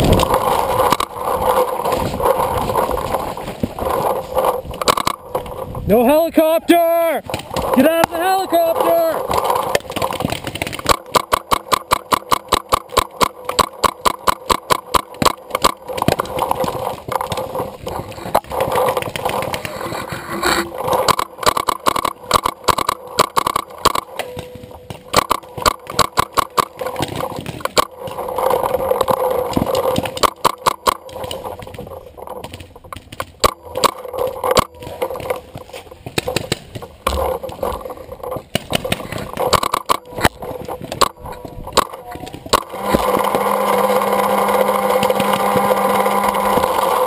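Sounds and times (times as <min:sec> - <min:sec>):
paintball markers firing: 0:00.0 - 0:06.2, 0:07.2 - 0:47.0.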